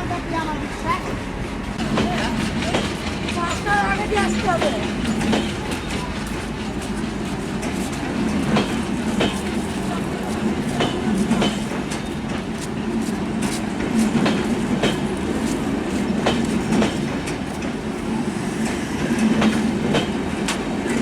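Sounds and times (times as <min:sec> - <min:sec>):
train rumble: 0:00.0 - 0:21.0
train wheels clacking: 0:00.0 - 0:21.0.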